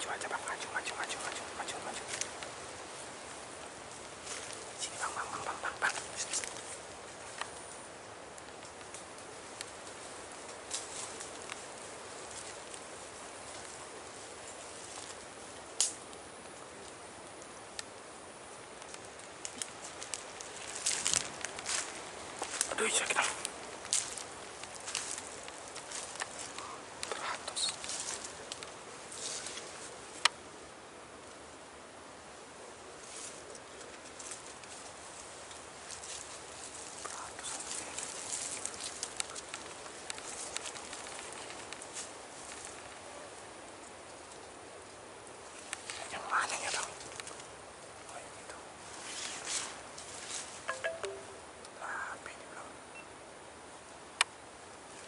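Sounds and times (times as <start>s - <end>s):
forest ambience: 0.0s - 55.0s
leaves rustling: 0.0s - 55.0s
outdoor hiss: 0.0s - 55.0s.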